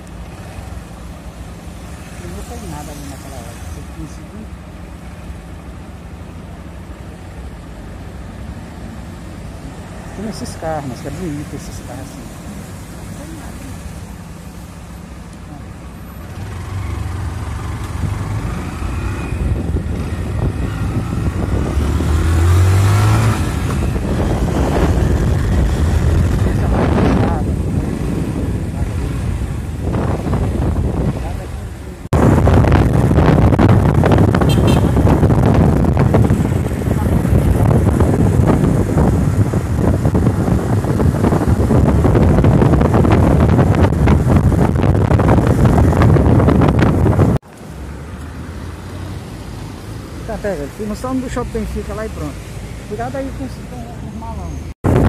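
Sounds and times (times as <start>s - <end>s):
motorcycle running: 0.0s - 53.9s
wind and road noise: 0.0s - 55.0s.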